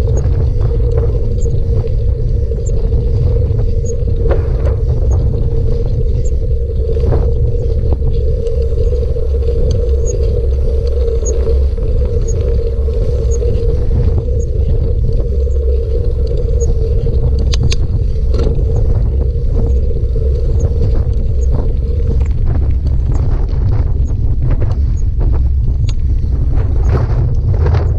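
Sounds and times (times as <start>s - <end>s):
faint ticking: 0.0s - 27.4s
bicycle tyres rolling: 0.0s - 27.9s
steady hum: 0.0s - 27.9s
wind rumble on microphone: 0.0s - 27.9s.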